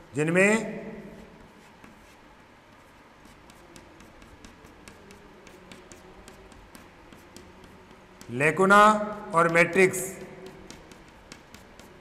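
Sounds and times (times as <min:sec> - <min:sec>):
chalk tapping on chalkboard: 0:01.2 - 0:12.0.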